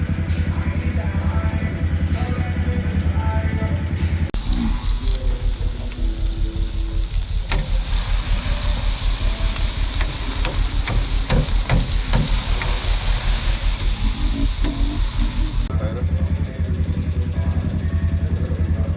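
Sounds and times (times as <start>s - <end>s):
atv engine running: 0.0s - 18.9s
constant hiss: 0.0s - 18.9s.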